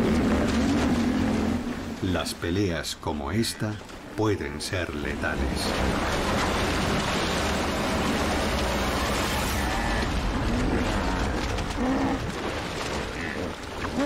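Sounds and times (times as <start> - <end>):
water splashing and churning: 0.0 - 14.0.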